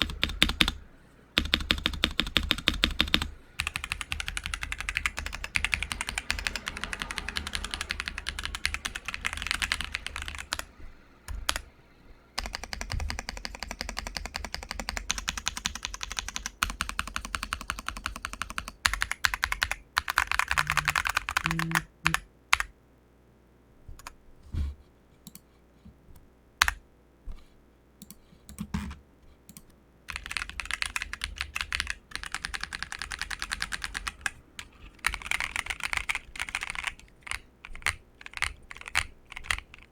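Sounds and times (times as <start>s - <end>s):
mechanical keyboard typing: 0.0s - 0.8s, 1.4s - 10.7s, 11.3s - 11.7s, 12.4s - 22.7s, 28.0s - 39.9s.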